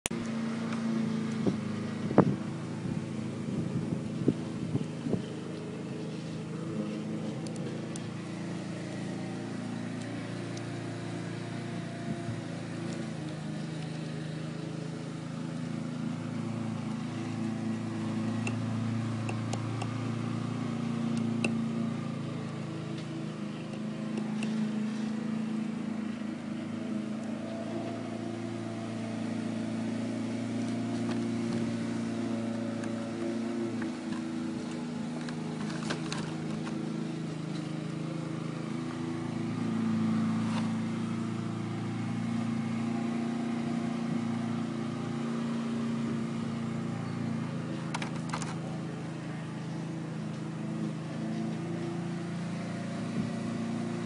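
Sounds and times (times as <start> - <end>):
motor humming: 0.1 - 54.0.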